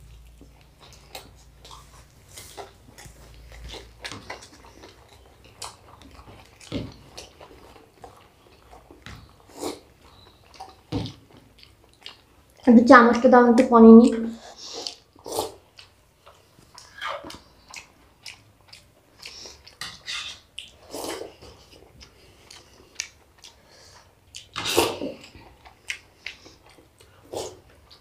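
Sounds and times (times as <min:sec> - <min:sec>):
people chewing and lip smacking: 0:00.0 - 0:12.7, 0:14.4 - 0:28.0.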